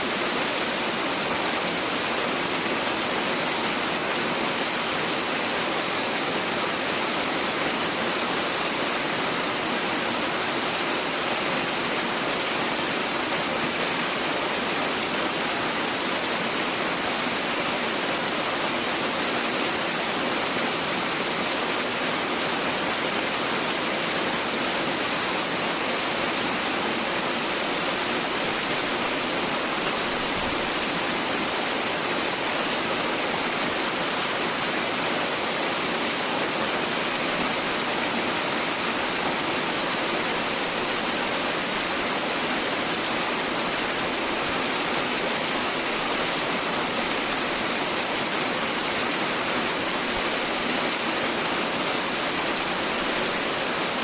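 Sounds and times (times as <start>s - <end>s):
waterfall roaring over rock: 0.0s - 54.0s.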